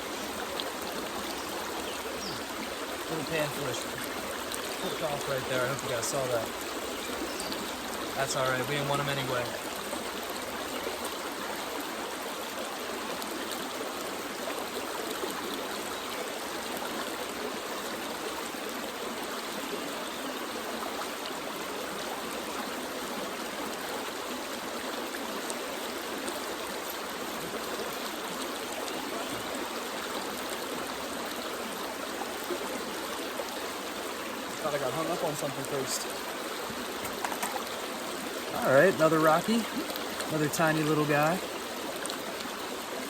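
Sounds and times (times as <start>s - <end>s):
creek water flowing over rocks: 0.0s - 43.0s.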